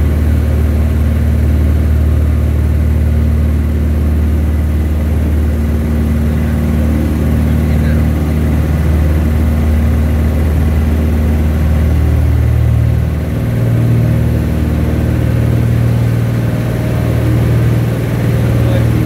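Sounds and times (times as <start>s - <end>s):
light aircraft engine and propeller: 0.0s - 19.0s.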